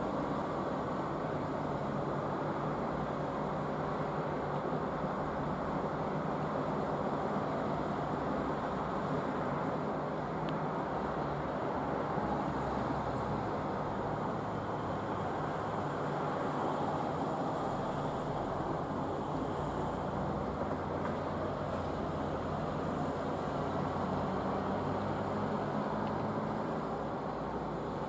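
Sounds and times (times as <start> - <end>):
distant traffic hum: 0.0 - 28.0.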